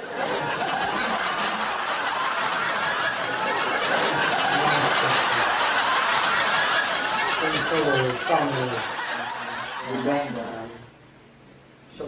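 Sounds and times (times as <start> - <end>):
laugh track: 0.0 - 10.9.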